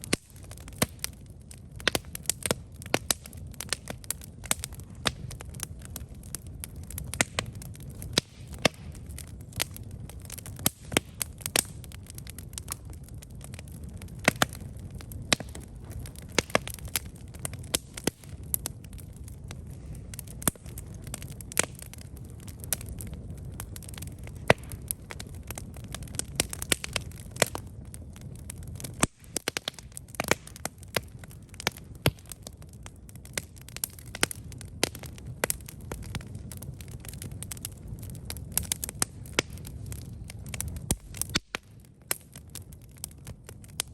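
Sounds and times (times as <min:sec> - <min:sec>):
campfire crackling and popping: 0:00.0 - 0:43.9
low rumble of flames: 0:00.0 - 0:43.9.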